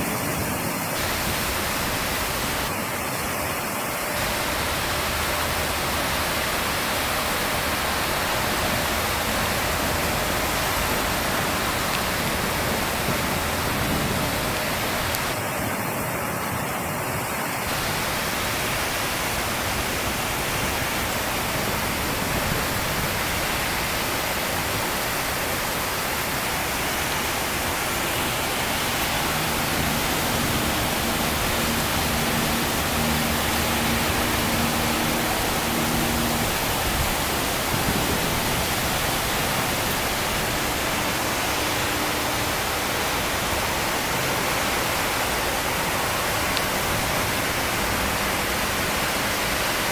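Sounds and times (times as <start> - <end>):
rain falling: 0.0 - 49.9.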